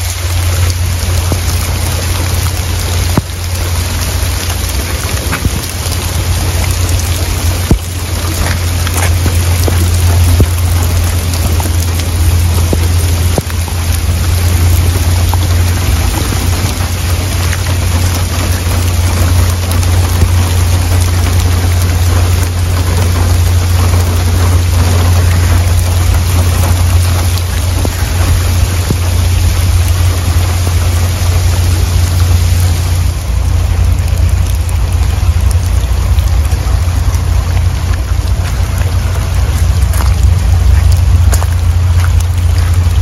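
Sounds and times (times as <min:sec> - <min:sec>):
falling rain: 0:00.0 - 0:43.0
floodwater rushing: 0:00.0 - 0:43.0
low rumble: 0:00.0 - 0:43.0.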